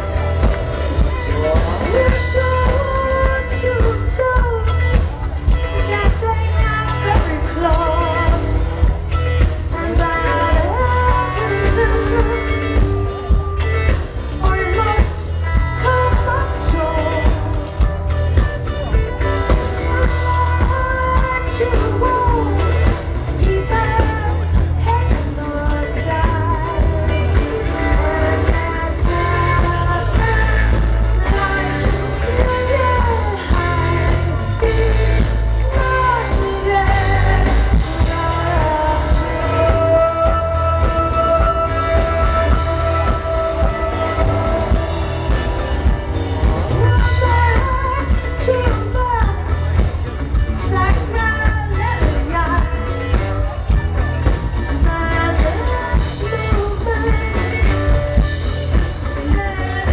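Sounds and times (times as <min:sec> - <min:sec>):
woman singing: 0:00.0 - 0:18.1, 0:18.8 - 0:46.0, 0:46.7 - 0:53.6, 0:54.2 - 0:59.9
live rock band playing: 0:00.0 - 0:59.9.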